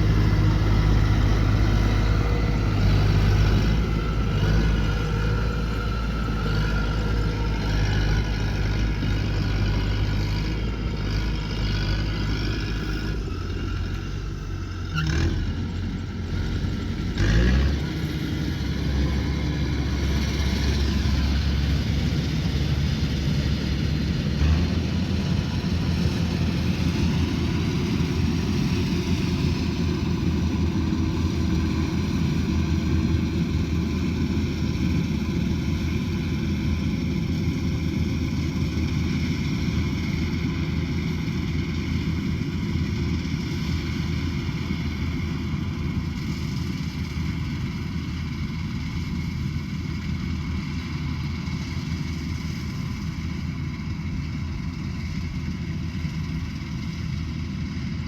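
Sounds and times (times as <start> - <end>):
combine harvester engine: 0.0 - 58.0.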